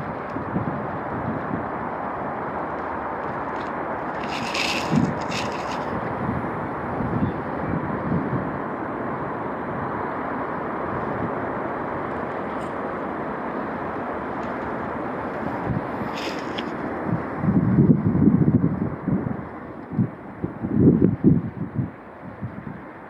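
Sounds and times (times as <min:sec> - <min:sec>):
wind blowing across microphone: 0:00.0 - 0:23.0.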